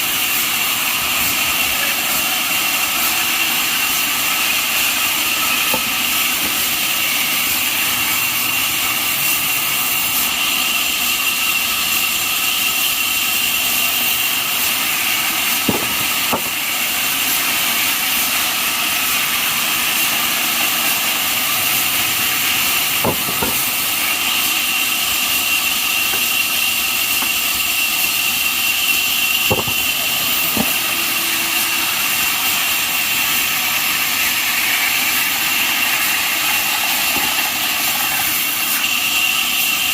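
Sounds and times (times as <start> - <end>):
band saw whining: 0.0 - 39.9.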